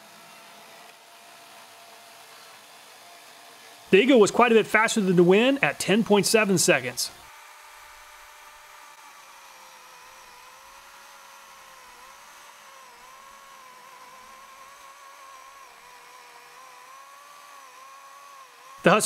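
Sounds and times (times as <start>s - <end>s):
electric chainsaw cutting wood: 0.0s - 19.0s.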